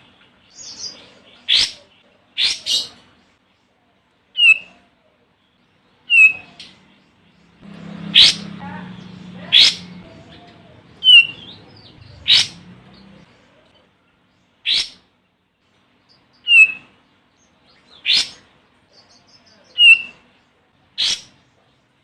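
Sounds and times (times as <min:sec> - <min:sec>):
bird calling: 0:00.0 - 0:03.2, 0:04.4 - 0:05.0, 0:06.0 - 0:15.2, 0:16.1 - 0:21.5
faint low hum: 0:00.0 - 0:22.0.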